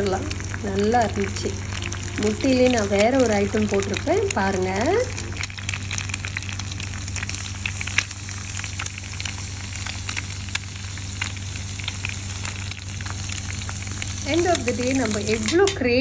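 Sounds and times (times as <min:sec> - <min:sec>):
food sizzling on a grill plate: 0:00.0 - 0:16.0.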